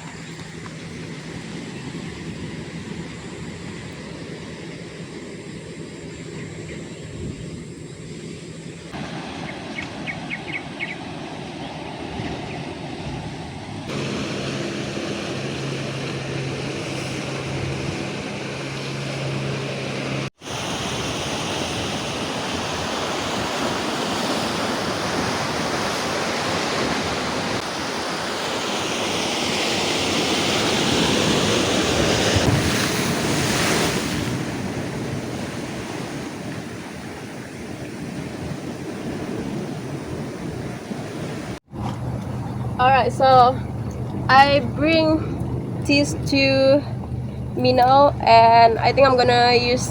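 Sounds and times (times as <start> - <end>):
wind buffeting microphone: 0.0 - 28.6, 29.6 - 49.9
steady engine hum: 0.0 - 49.9
waves breaking on rocks: 8.9 - 49.9.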